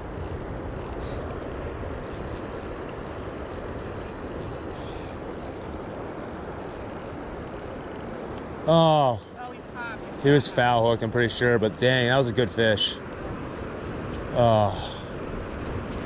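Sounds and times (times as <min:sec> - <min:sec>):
river current rushing: 0:00.0 - 0:15.6.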